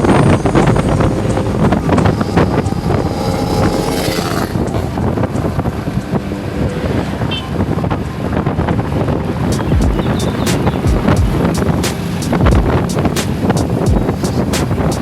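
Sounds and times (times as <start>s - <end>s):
motorcycle road noise: 0.0s - 15.0s
wind buffeting microphone: 0.0s - 15.0s.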